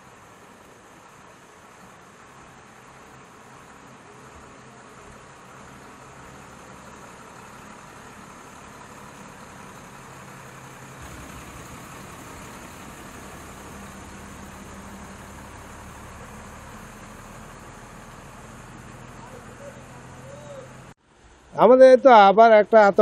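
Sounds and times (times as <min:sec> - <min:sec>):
low engine hum: 0:00.0 - 0:21.6
background noise: 0:00.0 - 0:23.0.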